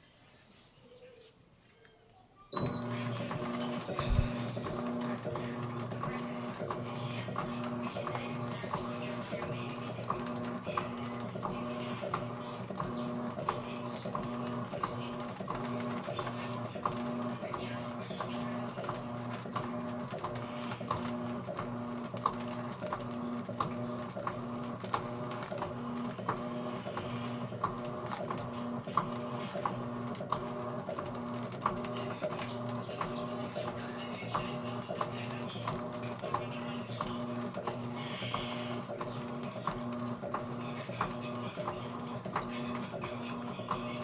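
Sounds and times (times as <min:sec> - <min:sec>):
washing machine humming: 0:02.5 - 0:44.0.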